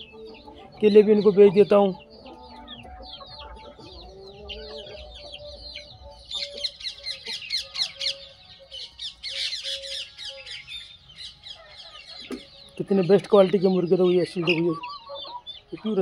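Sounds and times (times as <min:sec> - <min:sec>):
chickens clucking and calling: 0:00.0 - 0:16.0.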